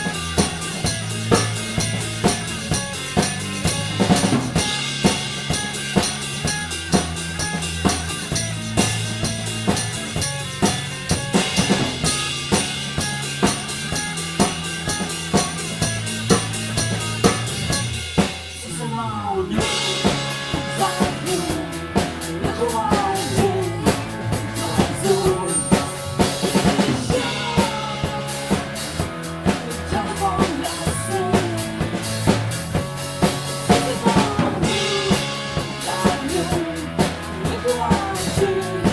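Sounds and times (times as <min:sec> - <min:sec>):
melodic line with bending notes: 0:00.0 - 0:18.2, 0:19.6 - 0:38.9
drum kit beat: 0:00.0 - 0:19.0, 0:19.6 - 0:38.9
sustained bass notes: 0:00.0 - 0:38.9.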